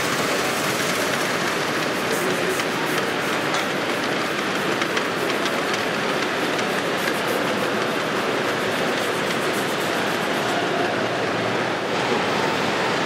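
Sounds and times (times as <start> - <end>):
model train clicking: 0.0 - 10.5.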